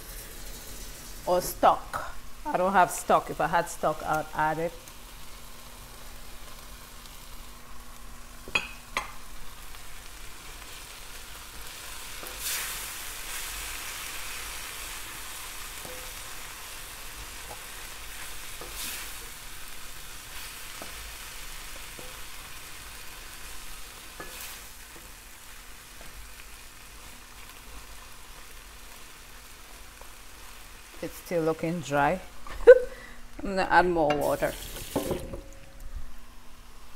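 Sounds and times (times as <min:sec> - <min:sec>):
stew sizzling in a pan: 0:00.0 - 0:33.4, 0:34.0 - 0:36.9.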